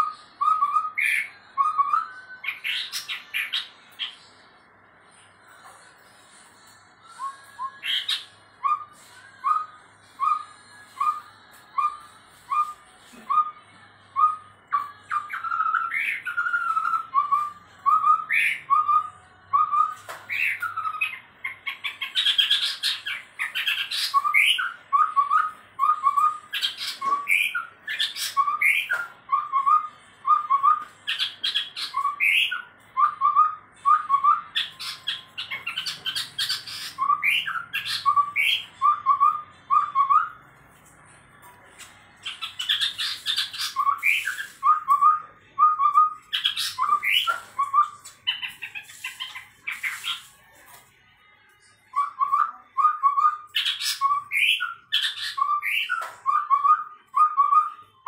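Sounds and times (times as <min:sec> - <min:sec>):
bird singing whistled notes: 0:00.0 - 0:04.1, 0:07.0 - 0:40.4, 0:42.2 - 0:50.2, 0:51.9 - 0:57.9.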